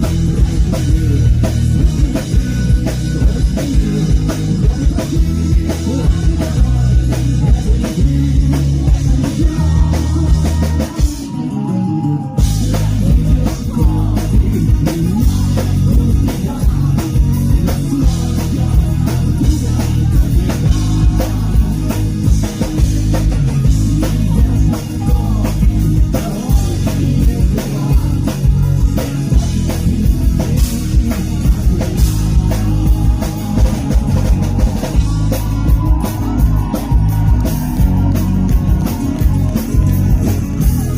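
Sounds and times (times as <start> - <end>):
rock band playing acoustic: 0.0 - 40.9.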